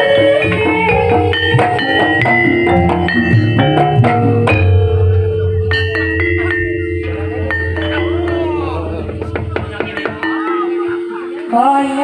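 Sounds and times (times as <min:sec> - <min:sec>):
metallophones ringing notes: 0:00.0 - 0:12.0
sharp drum strokes: 0:00.7 - 0:11.2.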